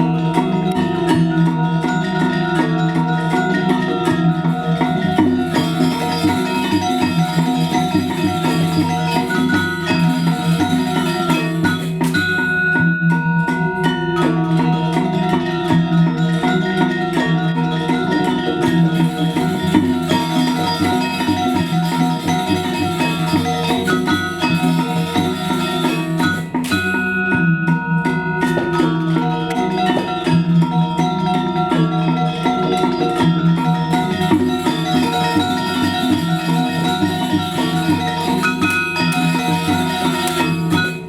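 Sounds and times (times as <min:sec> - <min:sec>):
gamelan metallophones ringing: 0:00.0 - 0:41.0.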